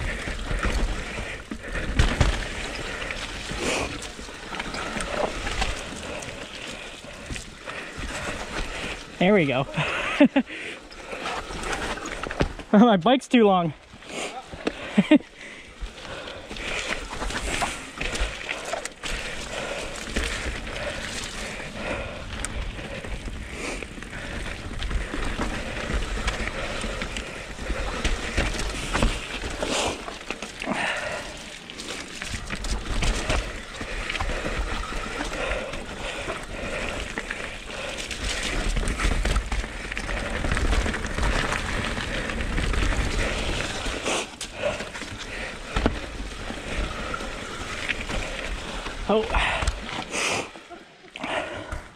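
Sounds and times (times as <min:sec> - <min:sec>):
bike rattling over bumps: 0:00.0 - 0:12.8, 0:13.8 - 0:50.2
bike tyres skidding over dirt: 0:00.0 - 0:12.8, 0:13.8 - 0:50.6.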